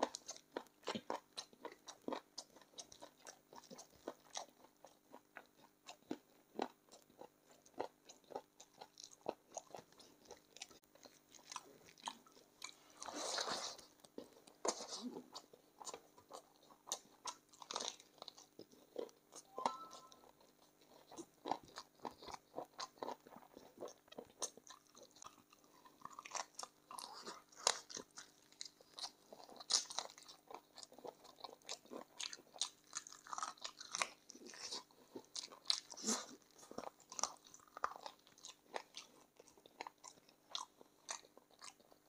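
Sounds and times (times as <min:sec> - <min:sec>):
wet chewing clicks: 0:00.0 - 0:42.0.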